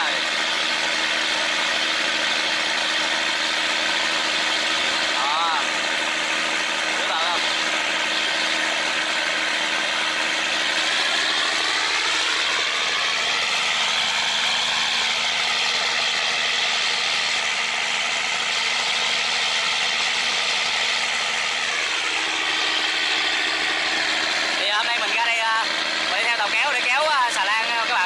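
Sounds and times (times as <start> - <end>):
boat diesel engine running: 0.0 - 28.0.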